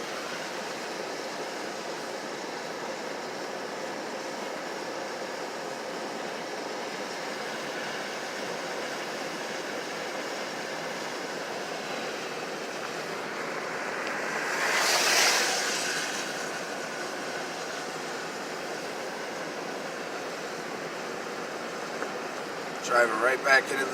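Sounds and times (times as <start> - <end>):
road and tyre noise in car: 0.0 - 23.9.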